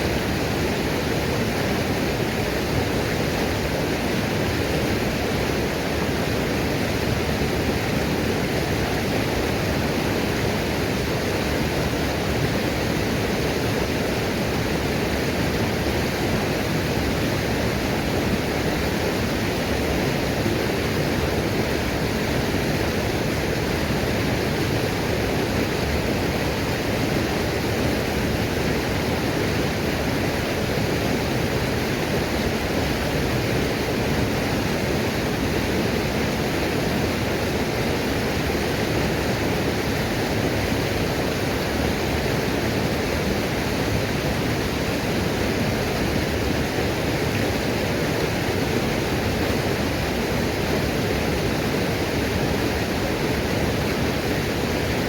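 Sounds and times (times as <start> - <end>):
small waterfall rushing: 0.0 - 55.0.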